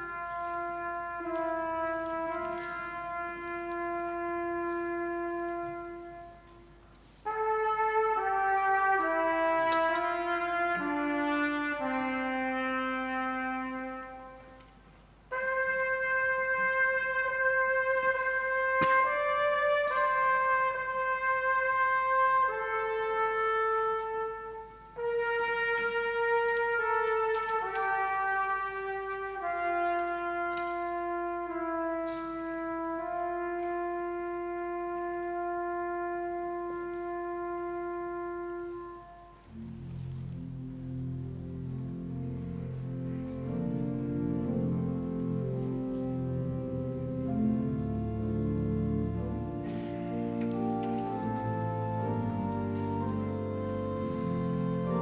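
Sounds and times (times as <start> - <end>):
solo trumpet slow melody: 0.0 - 55.0.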